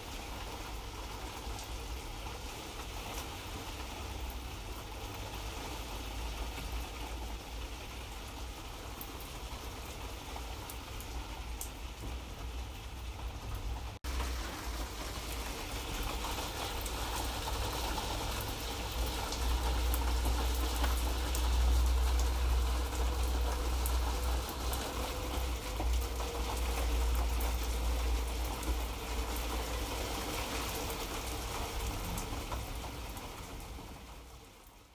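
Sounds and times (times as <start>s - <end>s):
light rain hissing: 0.0s - 34.9s.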